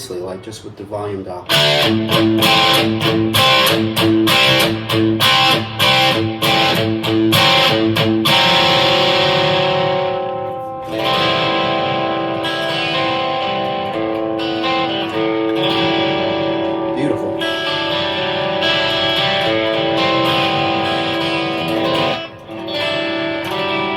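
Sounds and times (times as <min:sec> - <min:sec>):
electric guitar chords: 0:01.4 - 0:23.9.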